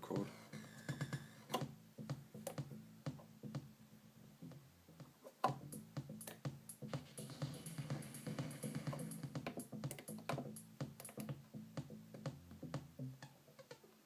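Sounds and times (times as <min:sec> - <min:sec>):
dj music playing: 0:00.0 - 0:03.7, 0:04.4 - 0:13.2.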